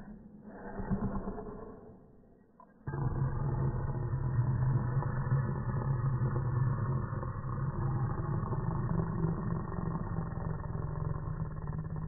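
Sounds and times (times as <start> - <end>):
slowed dog growling: 0.0 - 12.0.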